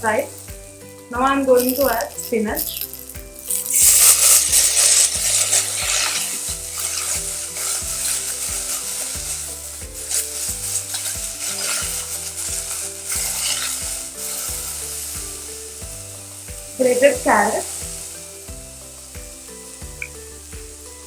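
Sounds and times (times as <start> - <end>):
spinach sizzling in hot oil: 0.0 - 21.0.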